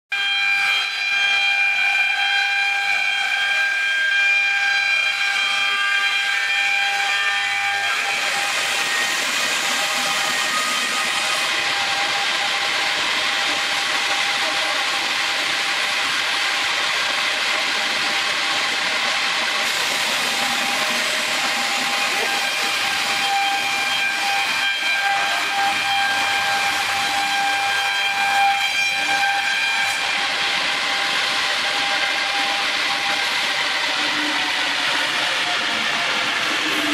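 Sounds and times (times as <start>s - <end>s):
saw blades cutting wood: 0.1s - 36.9s
saw blades whining: 0.1s - 36.9s.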